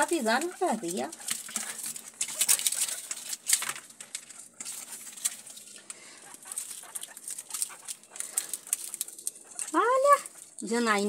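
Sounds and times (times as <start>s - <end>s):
guinea pigs rustling in dry husks: 0.0s - 11.0s.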